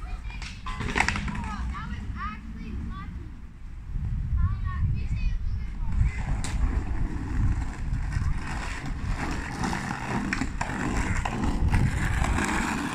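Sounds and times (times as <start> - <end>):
skateboard wheels rolling on concrete: 0.0 - 12.9.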